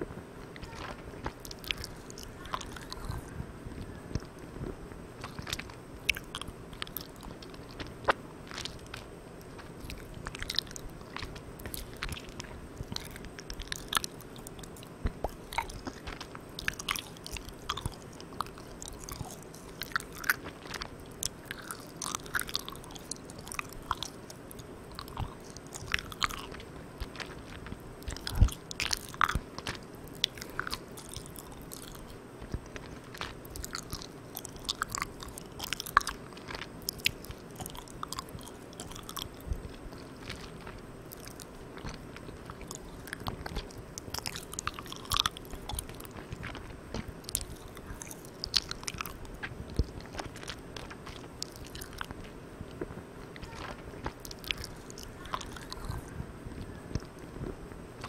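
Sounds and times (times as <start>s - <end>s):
recorder hiss: 0.0s - 58.0s
sticky mouth clicks and smacks: 0.4s - 57.6s.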